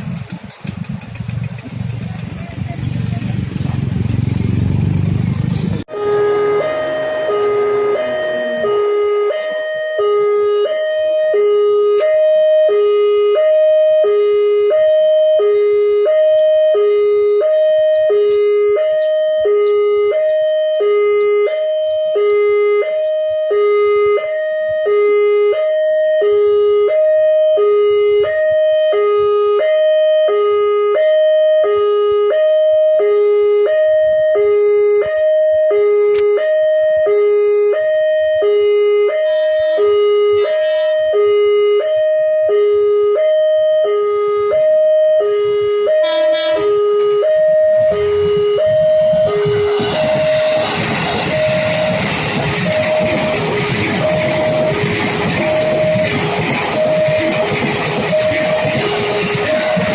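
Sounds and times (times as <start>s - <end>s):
level crossing warning alarm: 5.8s - 59.9s.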